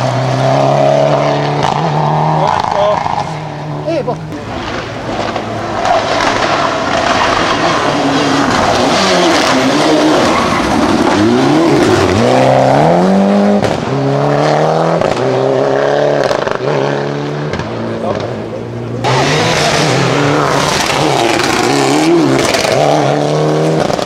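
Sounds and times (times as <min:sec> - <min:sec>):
car engine accelerating: 0:00.0 - 0:24.0
tyres rushing: 0:00.0 - 0:24.0.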